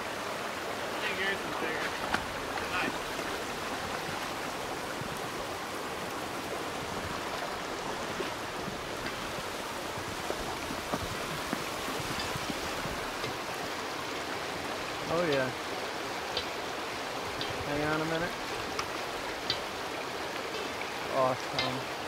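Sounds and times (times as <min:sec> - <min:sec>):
stream rushing over boulders: 0:00.0 - 0:22.0.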